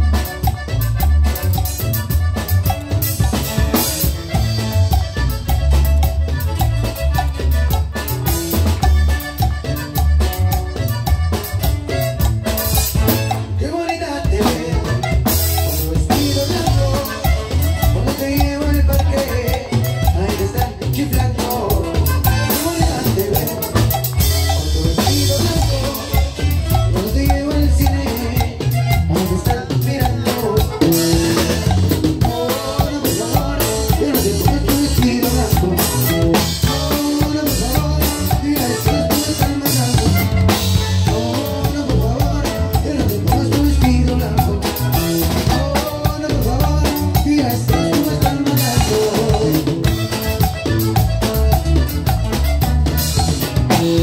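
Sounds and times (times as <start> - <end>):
drum kit dance beat: 0.0 - 13.6, 14.2 - 54.0
accordion: 0.0 - 54.0.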